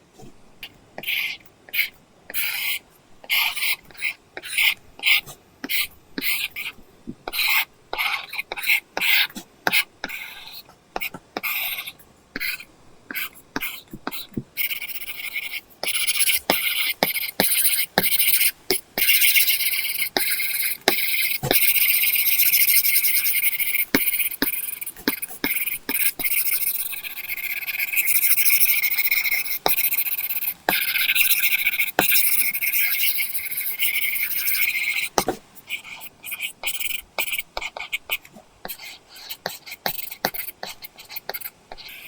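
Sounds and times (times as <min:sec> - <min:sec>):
pencil tip scratching on screen: 0:01.0 - 0:42.0.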